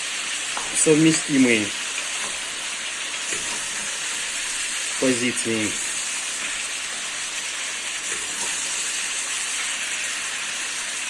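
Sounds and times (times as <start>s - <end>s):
beef and onion sizzling in a pot: 0.0s - 11.0s.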